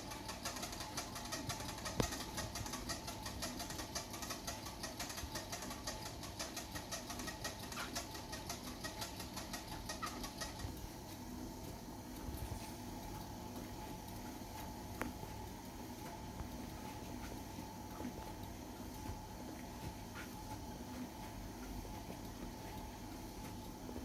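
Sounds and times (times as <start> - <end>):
treadmill squeaking rhythmically: 0.0 - 10.9, 12.4 - 24.0.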